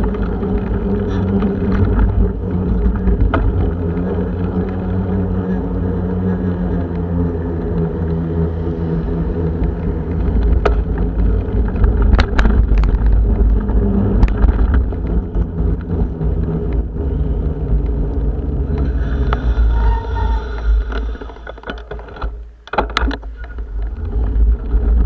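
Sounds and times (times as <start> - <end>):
wind buffeting microphone: 0.0 - 21.3.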